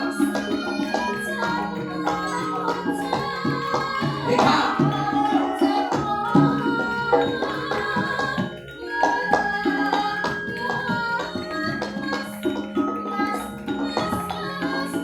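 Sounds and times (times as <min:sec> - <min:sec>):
ringing metallophone notes: 0:00.0 - 0:15.0.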